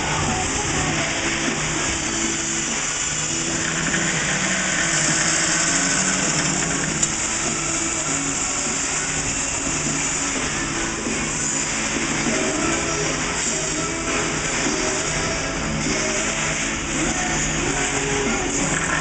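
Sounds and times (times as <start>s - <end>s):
power saw cutting steel tubing: 0.1s - 19.0s.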